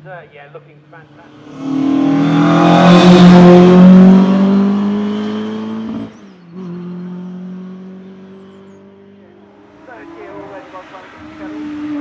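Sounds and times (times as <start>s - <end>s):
car engine at full throttle: 0.9s - 12.0s.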